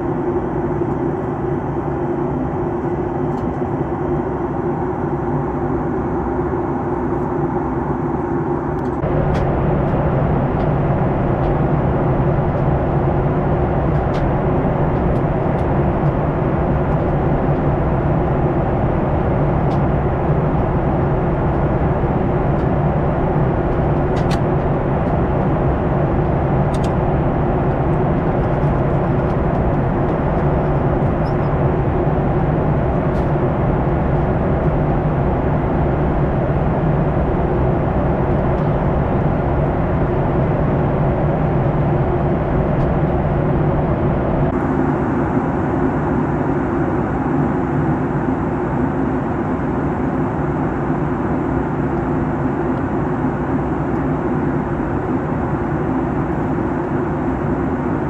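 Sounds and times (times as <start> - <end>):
airliner cabin air rush: 0.0 - 58.0
low hum: 0.0 - 58.0.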